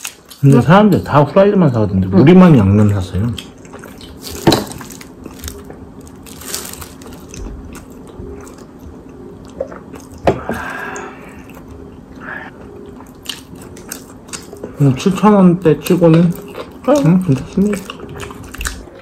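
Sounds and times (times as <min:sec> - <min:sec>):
chewing crunchy fried chicken: 0:02.5 - 0:19.0.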